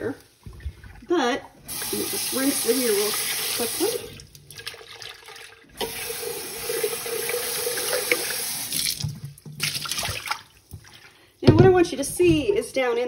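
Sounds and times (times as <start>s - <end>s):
water splashing into sink: 0.0s - 11.8s.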